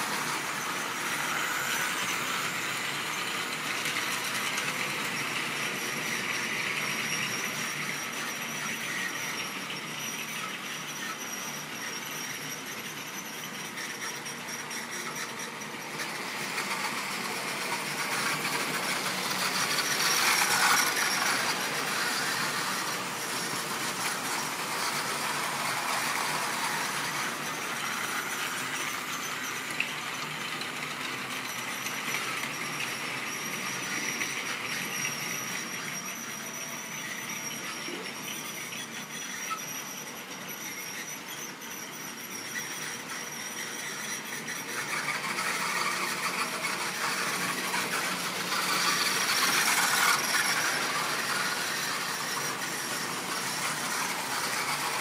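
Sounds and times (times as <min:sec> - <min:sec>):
model train wheels rattling: 0:00.0 - 0:55.0.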